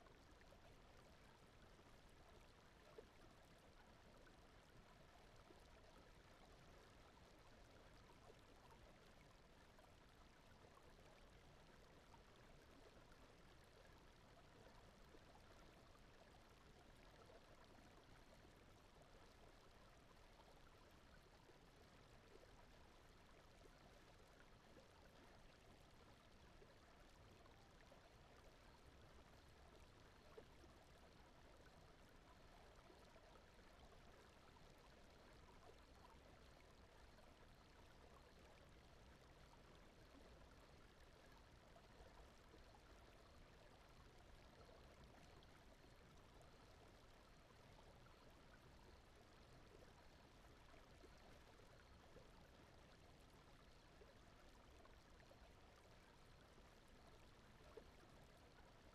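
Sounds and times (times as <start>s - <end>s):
gently flowing stream: 0.0s - 58.9s
low brown noise: 0.0s - 58.9s.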